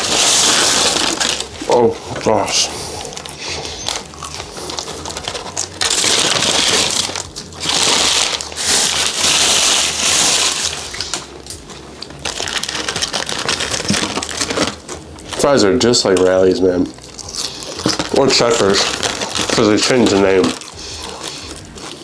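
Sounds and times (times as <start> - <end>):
paper bag rustling and crinkling: 0.0 - 11.4, 12.1 - 16.4, 17.0 - 22.0.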